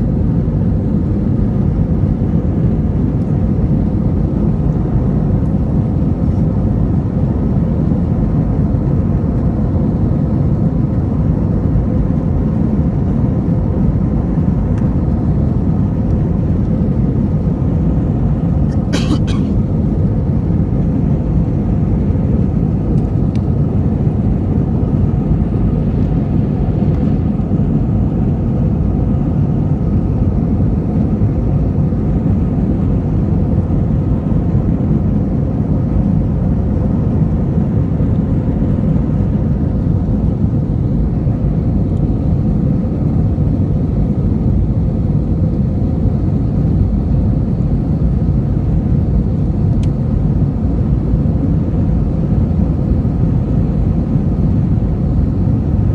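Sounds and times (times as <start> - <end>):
jet engine and airflow rumble: 0.0 - 55.9.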